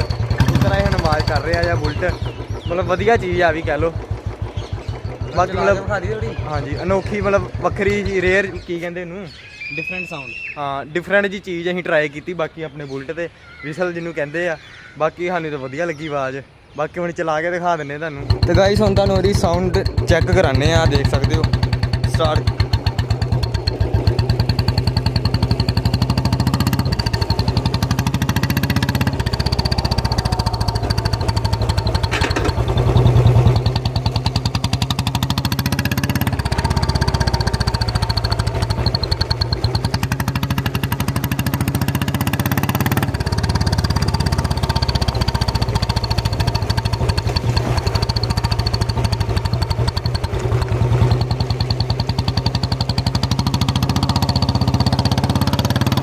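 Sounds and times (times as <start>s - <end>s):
motorcycle engine thumping: 0.0s - 8.8s, 18.2s - 56.0s.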